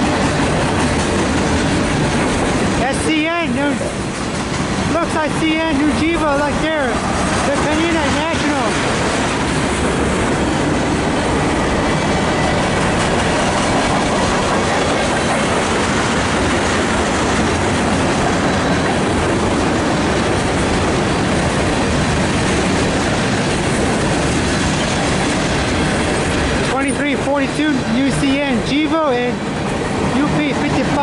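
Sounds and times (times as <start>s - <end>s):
freight train rumbling on rails: 0.0s - 31.0s
wheels clacking over rail joints: 0.0s - 31.0s.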